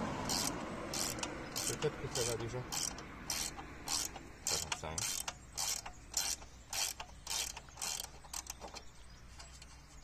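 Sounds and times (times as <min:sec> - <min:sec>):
ratchet wrench clicking: 0:00.2 - 0:08.8.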